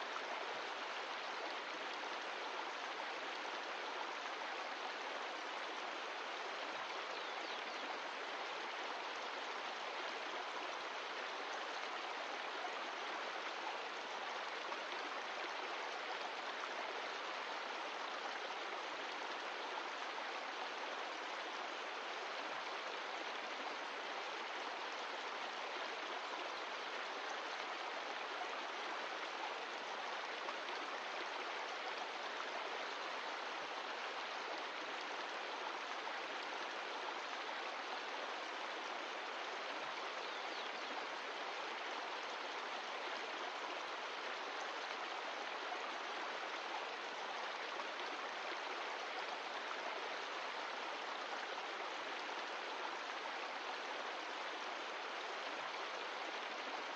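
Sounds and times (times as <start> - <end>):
stream rushing water: 0.0 - 56.9.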